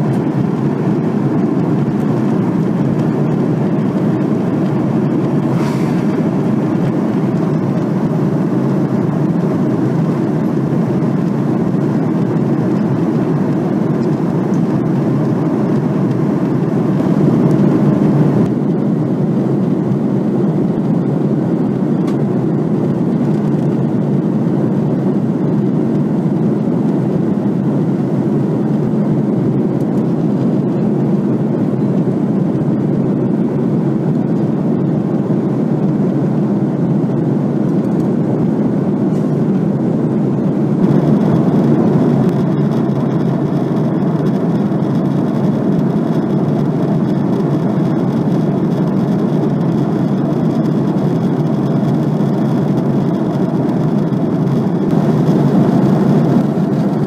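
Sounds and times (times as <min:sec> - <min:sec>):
airliner cabin drone: 0:00.0 - 0:57.0
engine and airflow noise: 0:00.0 - 0:57.0.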